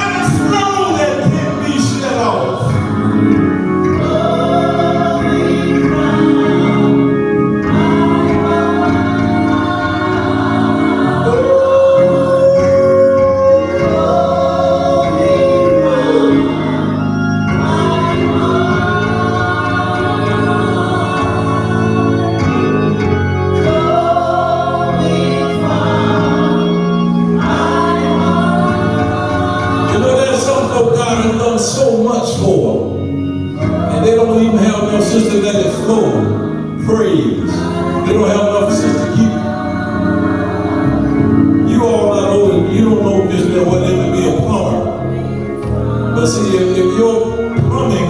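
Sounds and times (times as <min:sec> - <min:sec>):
gospel choir singing: 0:00.0 - 0:48.0
organ accompaniment: 0:00.0 - 0:48.0.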